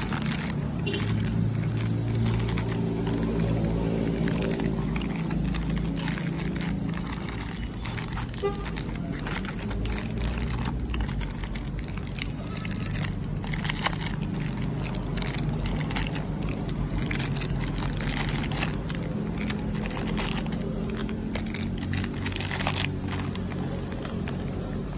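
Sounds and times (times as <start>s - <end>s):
plastic wrappers crinkling: 0.0s - 24.9s.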